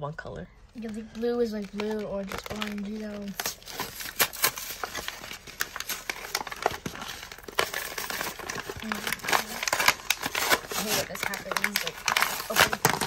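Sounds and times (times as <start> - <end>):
cardboard tearing and crinkling: 1.2 - 13.0.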